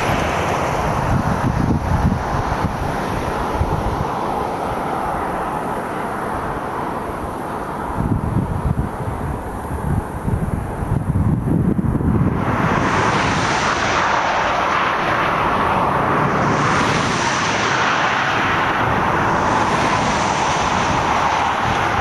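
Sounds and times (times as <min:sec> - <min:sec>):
highway tyre and road noise: 0:00.0 - 0:22.0
wind rumbling on microphone: 0:00.0 - 0:22.0.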